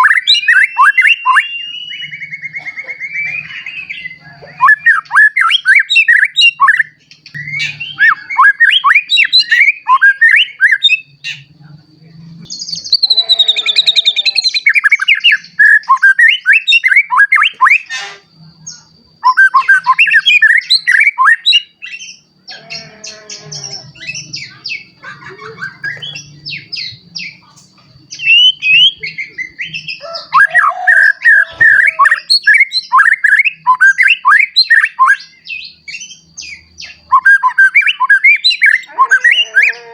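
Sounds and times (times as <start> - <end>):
bird singing whistled notes: 0.0 - 11.5, 12.4 - 22.6, 23.4 - 27.5, 28.1 - 39.9.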